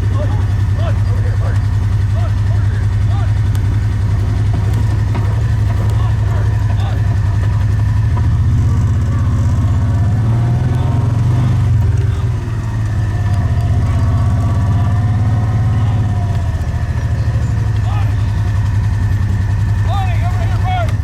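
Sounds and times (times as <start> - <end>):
vehicle engine low drone: 0.0 - 21.0.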